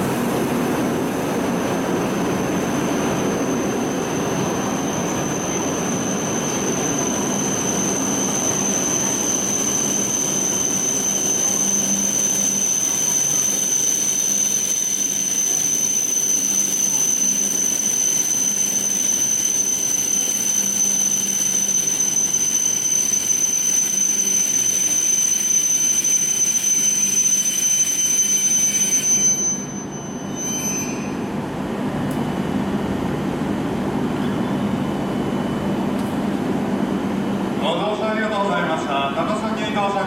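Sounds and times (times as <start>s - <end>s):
high-pitched electrical whine: 0.0s - 40.0s.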